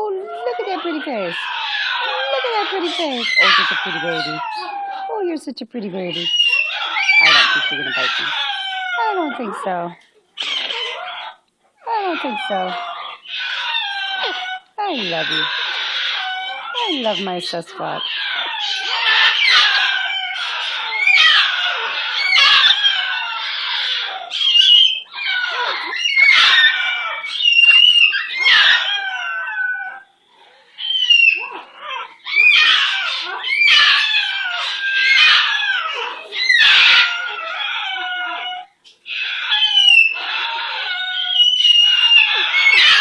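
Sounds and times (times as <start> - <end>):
parrot screeching and squawking: 0.0 - 5.1, 6.1 - 9.1, 10.4 - 11.4, 12.2 - 43.0.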